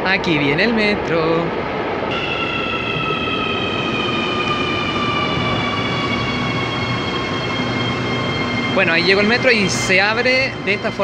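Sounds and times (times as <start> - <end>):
train rumbling and braking: 0.0 - 11.0
electric motors whining: 2.1 - 11.0.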